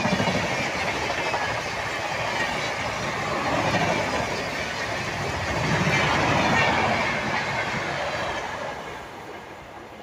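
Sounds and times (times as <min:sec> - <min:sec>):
train wheels rolling over rails: 0:00.0 - 0:10.0.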